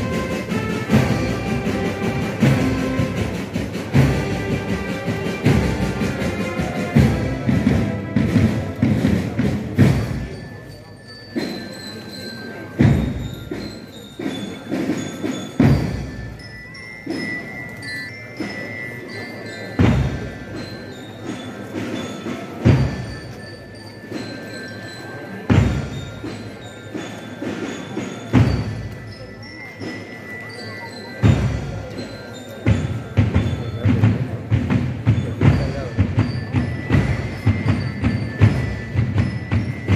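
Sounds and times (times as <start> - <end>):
murmur of crowd: 0.0 - 39.9.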